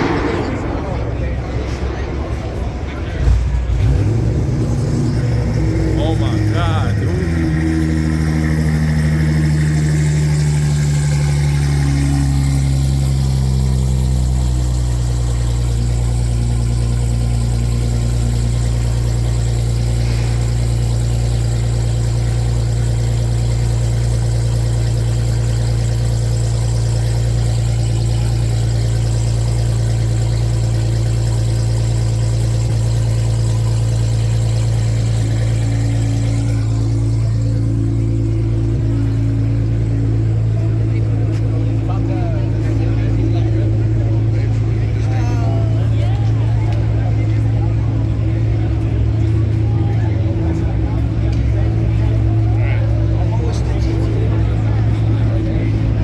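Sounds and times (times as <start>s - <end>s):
car engine droning: 0.0s - 56.0s.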